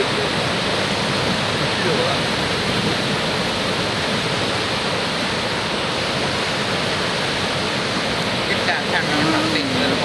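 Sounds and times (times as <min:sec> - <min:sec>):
fast-flowing river water rushing: 0:00.0 - 0:10.0.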